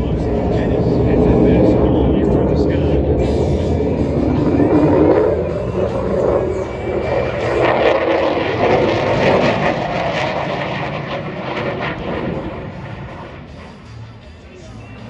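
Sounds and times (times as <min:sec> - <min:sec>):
jet engine passing overhead: 0:00.0 - 0:15.0.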